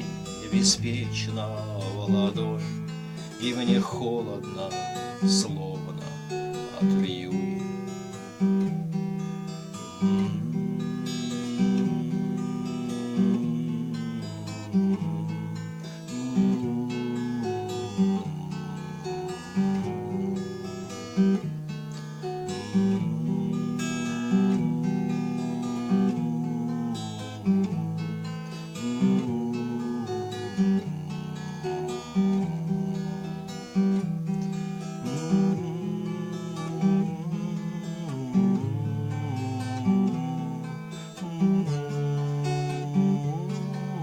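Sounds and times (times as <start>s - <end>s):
strummed acoustic guitar: 0.0s - 44.0s.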